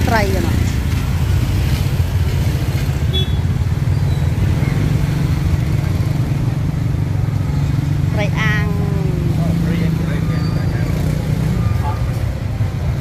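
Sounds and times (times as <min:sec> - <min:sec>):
busy street market bustle: 0:00.0 - 0:13.0.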